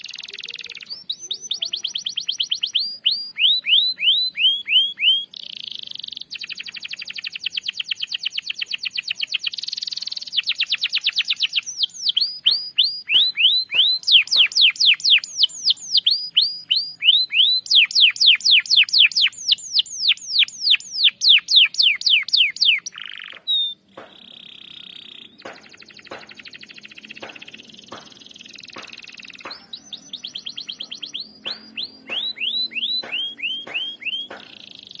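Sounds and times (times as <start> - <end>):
canary singing: 0.0 - 35.0.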